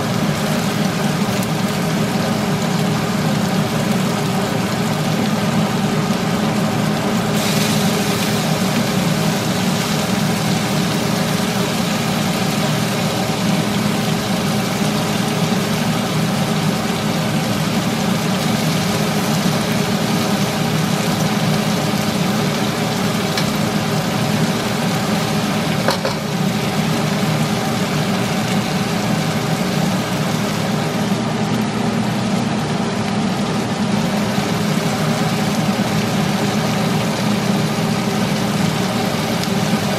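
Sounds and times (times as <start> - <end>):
exhaust fan motor hum: 0.0 - 39.9
meat frying in a wok: 0.0 - 39.9.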